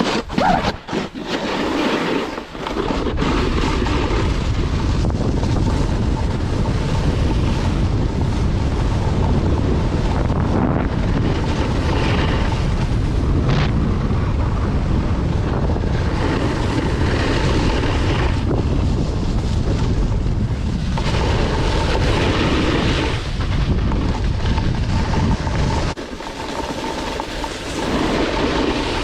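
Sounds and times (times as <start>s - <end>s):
snowboard scraping over snow: 0.0s - 29.0s
wind buffeting microphone: 0.0s - 29.0s.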